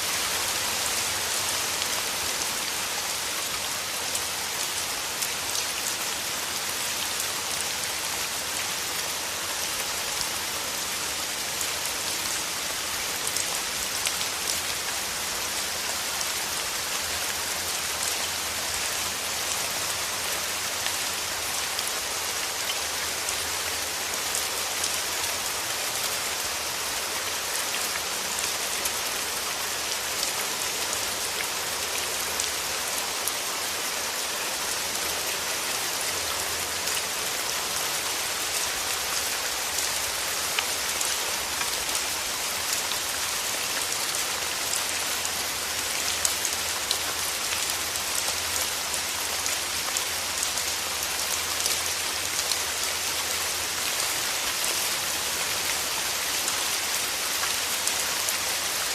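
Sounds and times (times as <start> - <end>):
rain falling through trees: 0.0 - 58.9.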